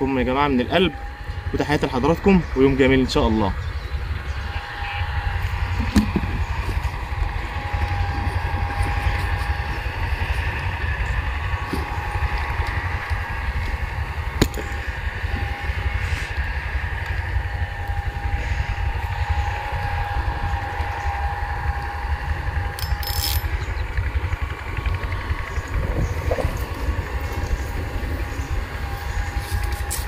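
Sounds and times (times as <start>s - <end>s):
faint steady hum: 0.0s - 30.0s
wind rumbling on microphone: 0.0s - 30.0s.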